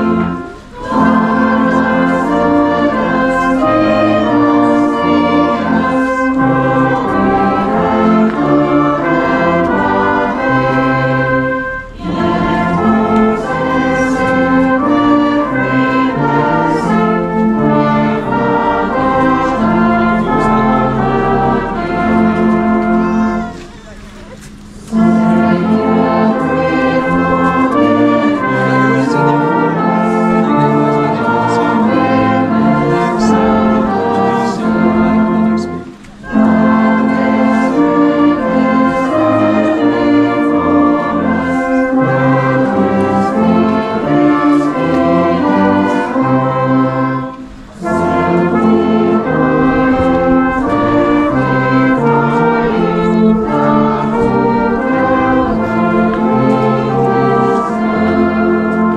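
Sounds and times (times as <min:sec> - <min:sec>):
brass band playing: 0:00.0 - 0:58.9.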